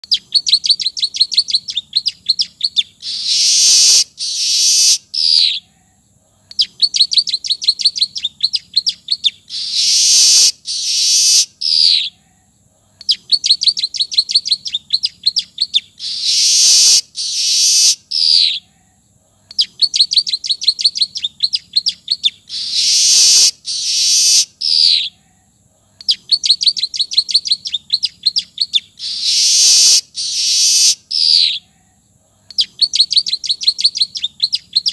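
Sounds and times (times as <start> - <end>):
weaver bird singing: 0.0 - 5.7, 6.5 - 12.2, 13.0 - 18.9, 19.5 - 25.2, 26.0 - 31.7, 32.5 - 34.9.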